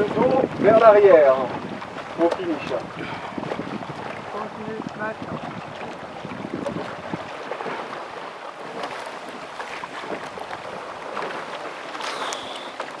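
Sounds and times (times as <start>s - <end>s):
wind on microphone: 0.0s - 12.9s
oars splashing in water: 0.0s - 13.0s.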